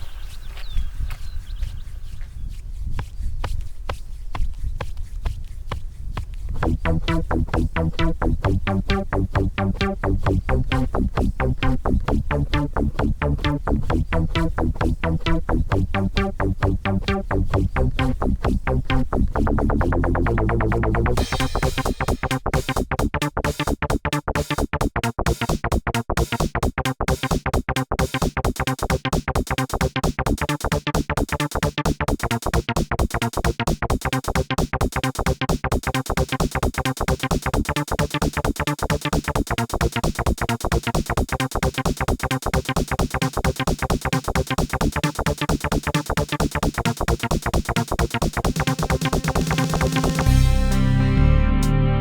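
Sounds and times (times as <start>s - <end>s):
electronic music: 6.6s - 52.0s.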